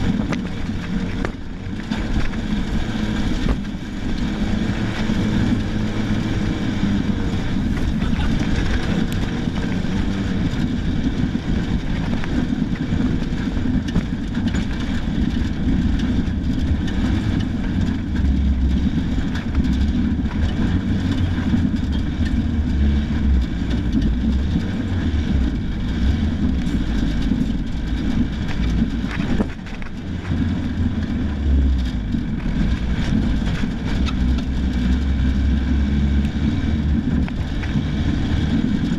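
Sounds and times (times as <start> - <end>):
knocks and rattles: 0.0 - 38.9
loud road noise: 0.0 - 38.9
rally car engine: 0.0 - 38.9.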